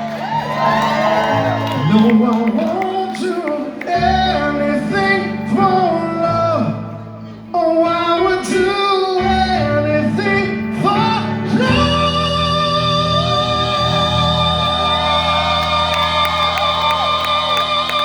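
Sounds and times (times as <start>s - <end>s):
person singing: 1.6s - 18.0s.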